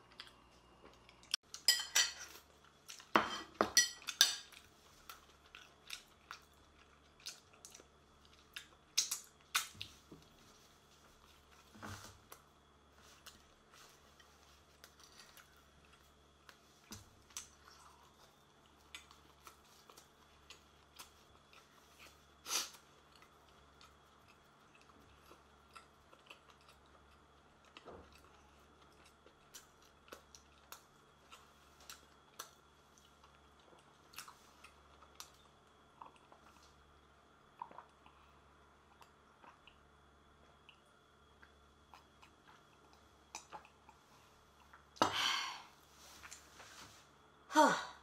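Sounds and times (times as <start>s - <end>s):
faint chewing: 0.0s - 3.2s, 4.0s - 45.0s
low steady hum: 0.0s - 48.0s.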